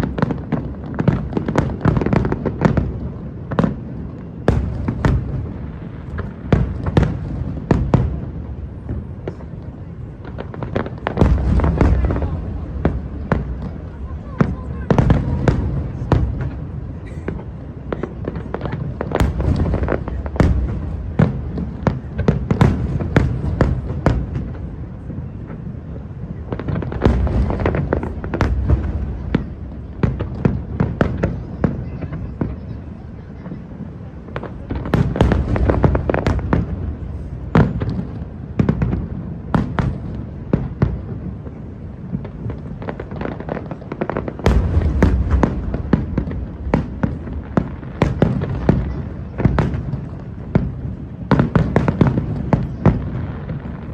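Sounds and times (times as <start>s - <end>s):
fireworks bangs and crackles: 0.0s - 53.9s
fireworks deep booms: 0.0s - 53.9s.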